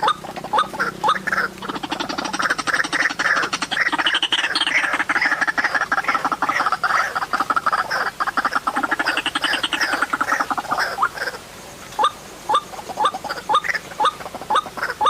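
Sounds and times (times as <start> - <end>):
waterhen harsh repeated calls: 0.0 - 15.0.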